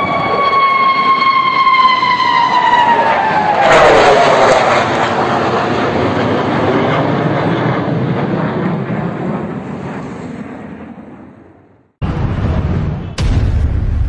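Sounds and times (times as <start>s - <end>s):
jet fighters roaring overhead: 0.0s - 13.4s.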